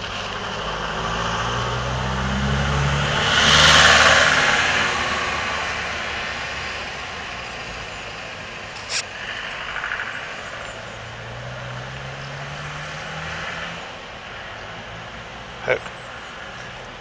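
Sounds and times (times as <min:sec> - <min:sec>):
vehicle engine hum: 0:00.0 - 0:17.0
vehicle passing: 0:00.0 - 0:17.0.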